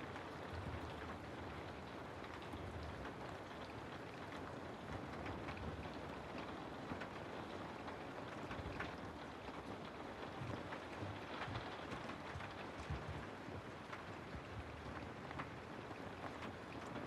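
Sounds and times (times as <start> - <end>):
rain falling through trees: 0.0 - 17.0.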